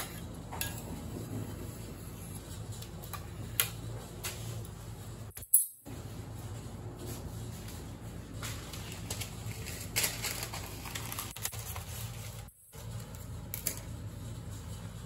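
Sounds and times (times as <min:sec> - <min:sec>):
kitchen room hum: 0:00.0 - 0:15.0.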